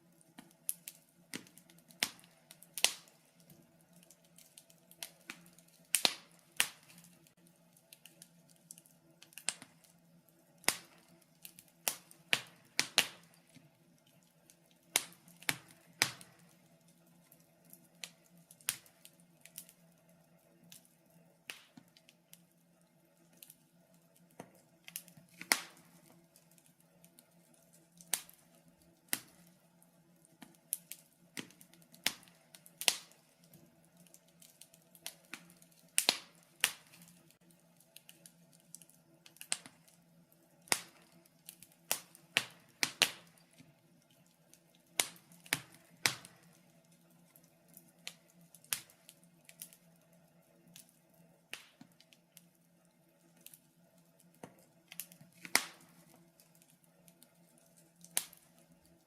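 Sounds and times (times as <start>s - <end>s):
wood fire crackling: 0.0s - 59.0s
sharp pops and snaps: 0.1s - 22.5s, 23.2s - 40.0s, 40.6s - 49.9s, 51.5s - 52.6s, 54.2s - 59.0s.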